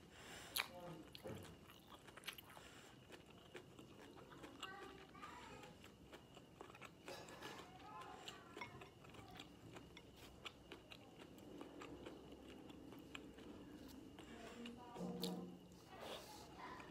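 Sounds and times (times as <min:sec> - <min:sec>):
person chewing with wet smacks: 0:00.5 - 0:16.9.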